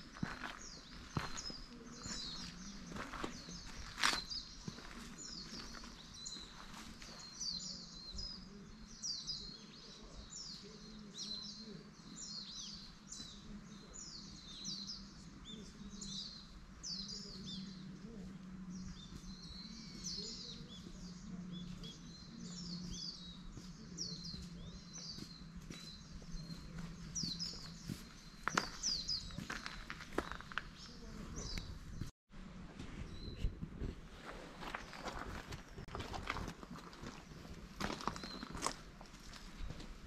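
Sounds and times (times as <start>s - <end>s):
songbirds chirping: 0.0s - 40.0s.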